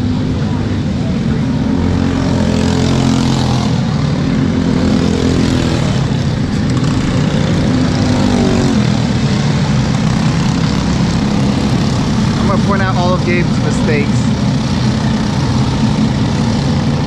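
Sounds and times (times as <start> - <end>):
kart engines running: 0.0 - 17.0.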